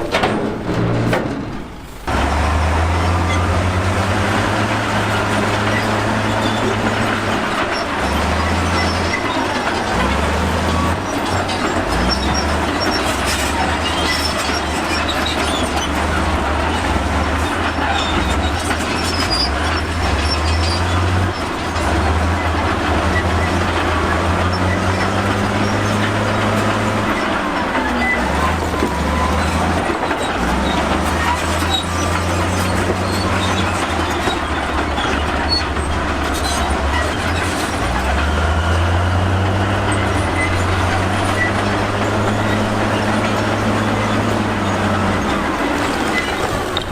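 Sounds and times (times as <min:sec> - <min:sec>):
bulldozer diesel engine: 0:00.0 - 0:46.9
steel tracks squealing and clanking: 0:00.0 - 0:46.9.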